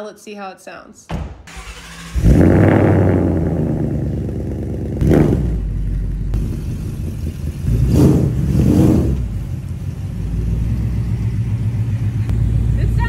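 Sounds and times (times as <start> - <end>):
car engine idling and revving: 1.5 - 13.0.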